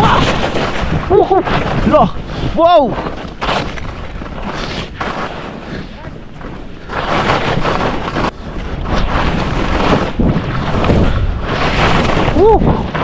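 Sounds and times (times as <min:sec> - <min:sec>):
wind rushing over microphone: 0:00.0 - 0:13.0
skis scraping over snow: 0:00.2 - 0:13.0.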